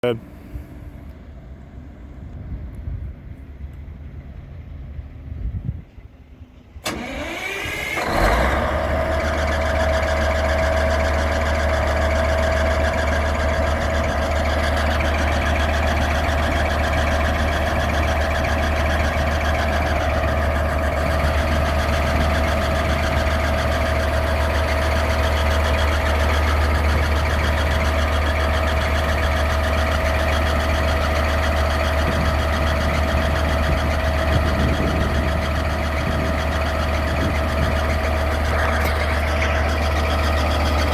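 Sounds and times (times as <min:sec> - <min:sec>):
diesel engine rumbling: 0:00.0 - 0:40.9
steady machine whine: 0:06.8 - 0:40.9.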